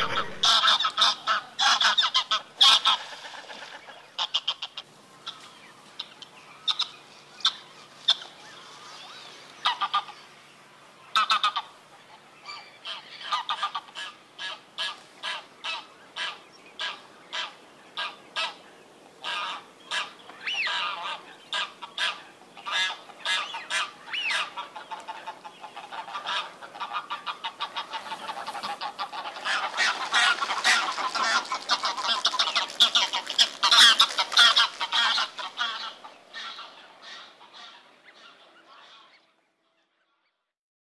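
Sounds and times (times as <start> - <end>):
geese honking: 0.0 - 8.8, 9.6 - 10.2, 11.1 - 18.6, 19.2 - 39.3.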